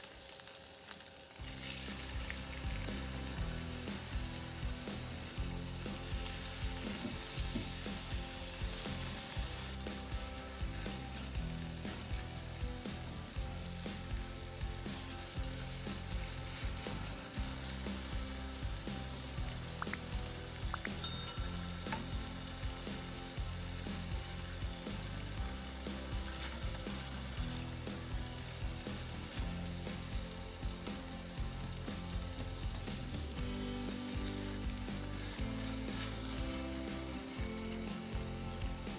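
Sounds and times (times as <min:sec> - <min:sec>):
chicken sizzling in oil: 0:00.0 - 0:38.9
spatula pushing food in pan: 0:01.4 - 0:21.0, 0:21.6 - 0:31.2, 0:32.0 - 0:38.4.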